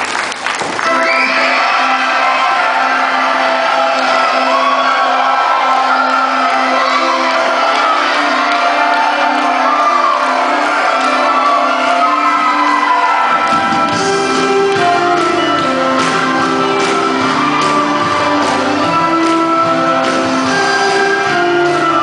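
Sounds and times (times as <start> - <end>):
upbeat stage musical music: 0.0 - 22.0
audience shouting: 0.8 - 22.0.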